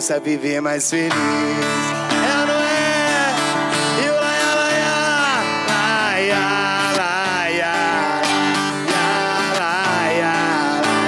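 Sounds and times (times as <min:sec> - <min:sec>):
man singing: 0:00.0 - 0:11.0
strummed acoustic guitar: 0:00.0 - 0:11.0.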